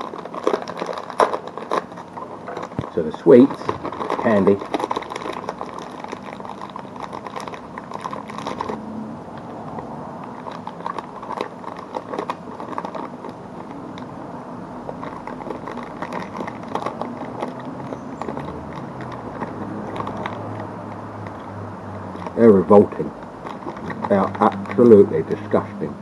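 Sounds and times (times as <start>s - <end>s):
person chewing sweets: 0.0s - 25.7s
plastic bag crackling: 0.0s - 25.7s.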